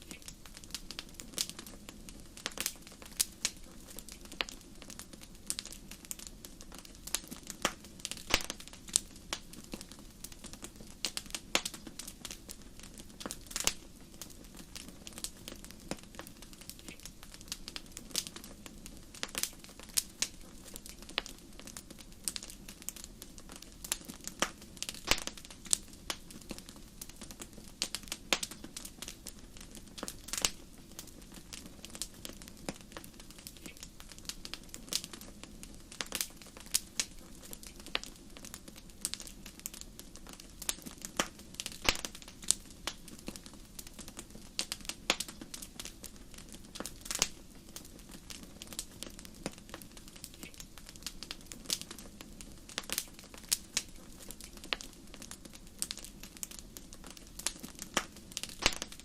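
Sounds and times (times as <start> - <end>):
fire popping and snapping: 0.0 - 59.0
hiss of flames: 0.0 - 59.0.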